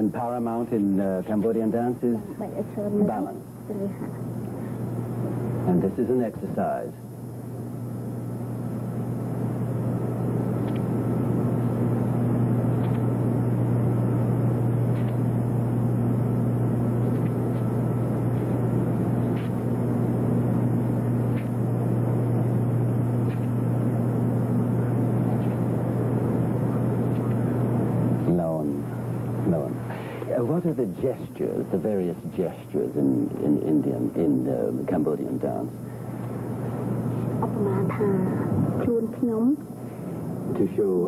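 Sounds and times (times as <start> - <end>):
low hum with hiss: 0.0 - 41.0.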